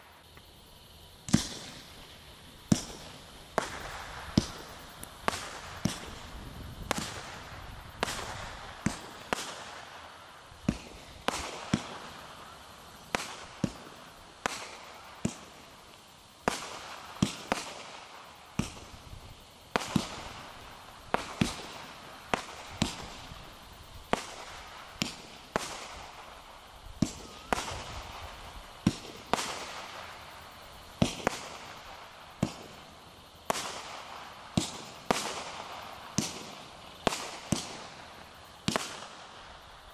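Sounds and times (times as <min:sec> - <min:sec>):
fizzing hiss of glittering stars: 0:00.0 - 0:39.9
firework bangs: 0:01.2 - 0:15.8, 0:16.4 - 0:32.9, 0:33.5 - 0:39.7.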